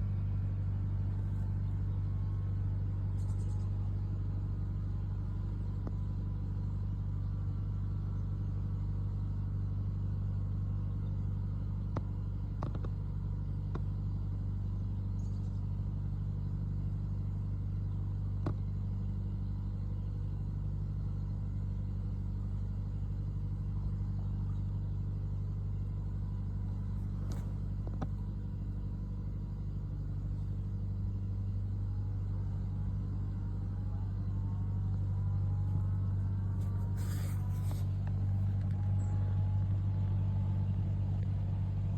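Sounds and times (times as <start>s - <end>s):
tractor engine droning: 0.0s - 41.9s.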